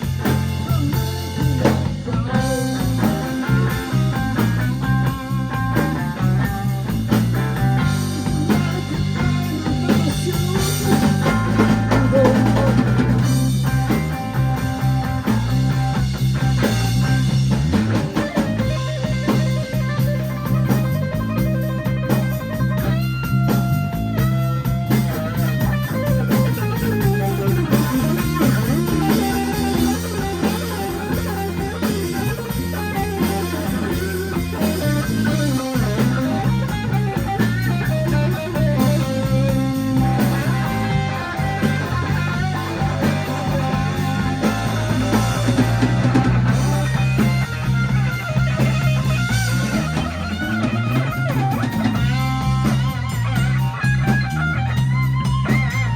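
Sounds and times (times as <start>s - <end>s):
bass guitar: 0.0s - 55.9s
drum kit: 0.0s - 55.9s
electric guitar solo: 0.0s - 55.9s.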